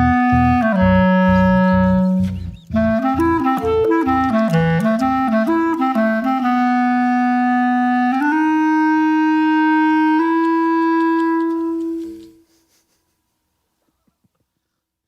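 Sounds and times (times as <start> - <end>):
instrumental melody long notes: 0.0 - 12.4.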